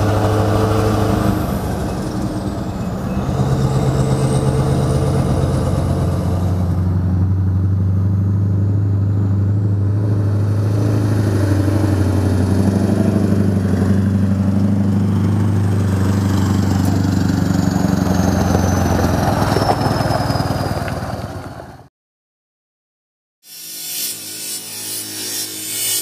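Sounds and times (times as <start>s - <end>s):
diesel engine droning: 0.0s - 21.9s.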